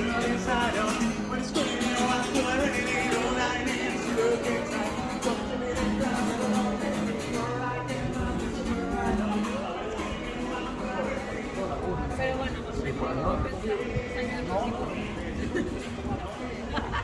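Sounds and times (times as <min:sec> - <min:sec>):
strummed acoustic guitar: 0:00.0 - 0:16.7.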